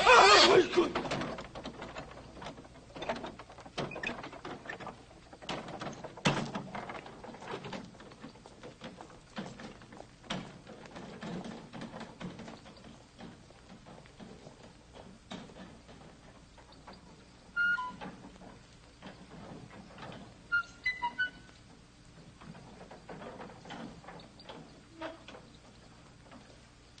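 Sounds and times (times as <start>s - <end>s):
footsteps of people moving: 0.4s - 27.0s.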